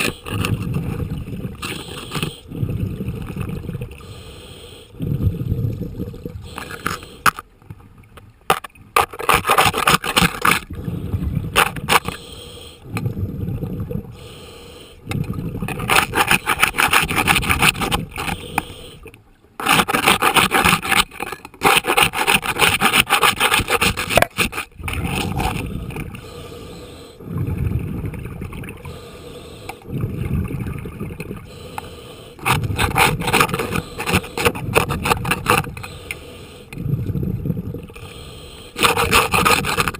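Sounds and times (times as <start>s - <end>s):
gritty scraping of barnacles underwater: 0.0s - 39.9s.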